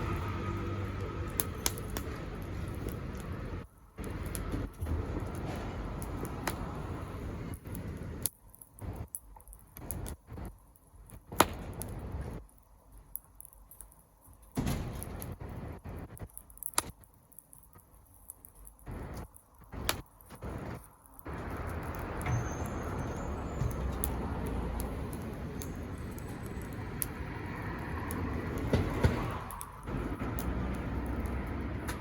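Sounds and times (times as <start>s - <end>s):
bonfire crackles and pops: 0.0s - 32.0s
fire low rumble: 0.0s - 32.0s.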